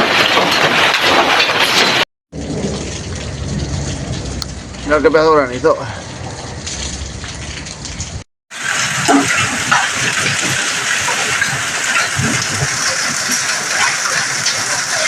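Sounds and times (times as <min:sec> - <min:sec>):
rain and hail pouring: 0:00.0 - 0:15.0.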